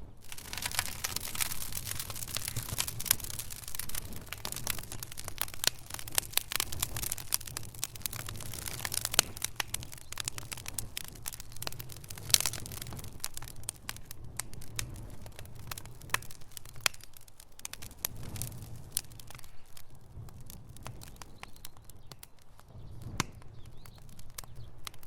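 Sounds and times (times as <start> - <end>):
low rumble of flames: 0.0 - 25.0
wood fire crackling and popping: 0.0 - 25.0.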